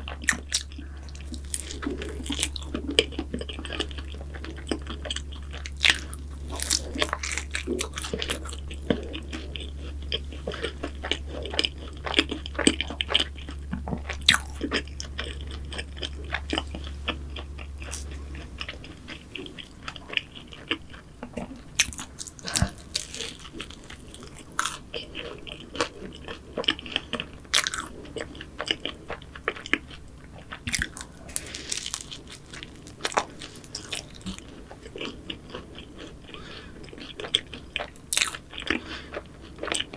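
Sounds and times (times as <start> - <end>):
crunchy chewing of pastries: 0.0 - 39.9
low steady hum: 0.0 - 39.9.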